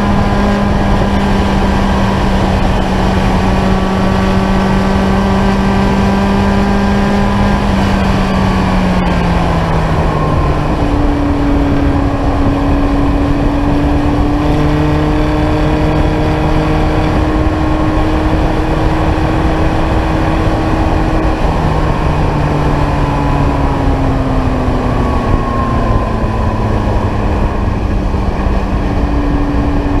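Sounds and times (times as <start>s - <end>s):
car engine running hard: 0.0s - 30.0s
wind noise: 0.0s - 30.0s.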